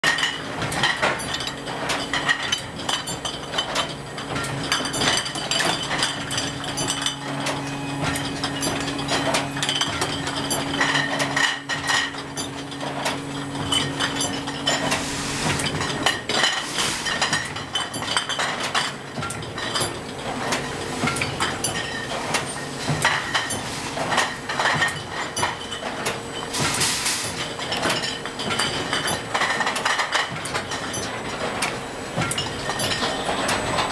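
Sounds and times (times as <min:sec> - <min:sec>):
glass bottles clinking: 0:00.0 - 0:33.9
machine running hum: 0:00.1 - 0:33.9.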